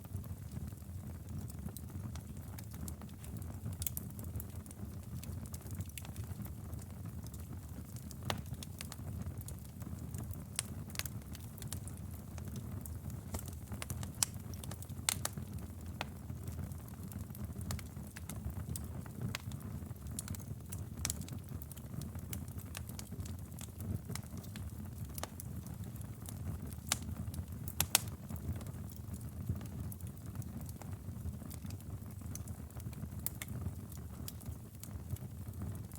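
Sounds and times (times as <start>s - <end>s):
wood fire crackling and popping: 0.0s - 35.9s
flames rumbling: 0.2s - 35.9s.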